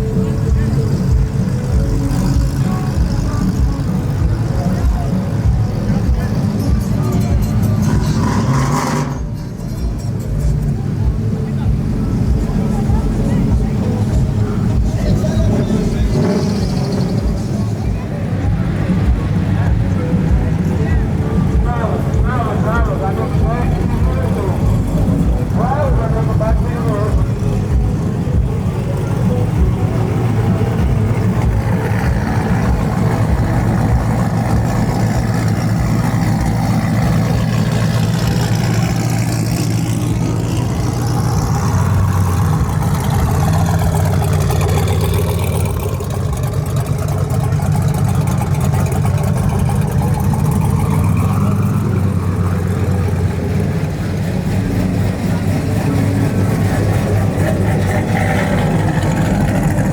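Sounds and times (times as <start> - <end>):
truck engines running: 0.0 - 59.9.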